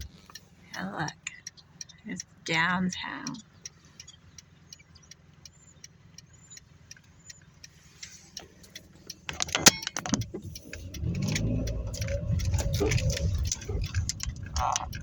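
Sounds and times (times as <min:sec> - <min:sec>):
car engine rumble: 0:00.0 - 0:15.0
car turn signal ticking: 0:00.0 - 0:15.0.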